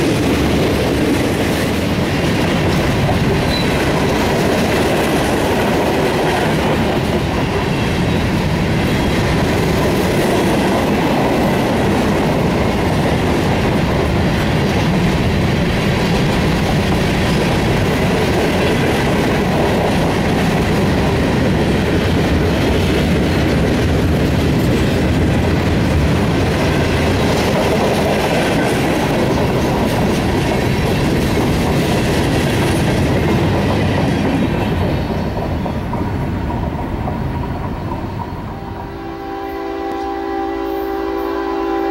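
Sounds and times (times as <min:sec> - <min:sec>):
train wheels rumbling on rails: 0:00.0 - 0:41.9.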